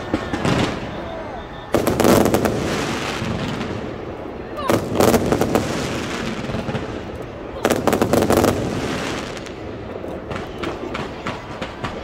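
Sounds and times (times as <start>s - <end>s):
fireworks bursting with sharp cracks: 0.0s - 12.0s.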